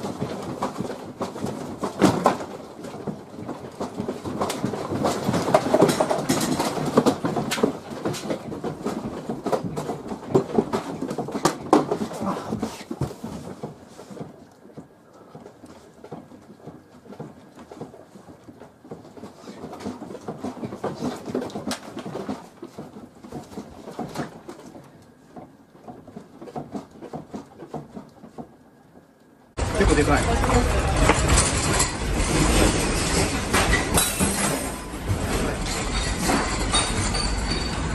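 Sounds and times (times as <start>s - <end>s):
furniture and objects rattling: 0.0s - 37.9s.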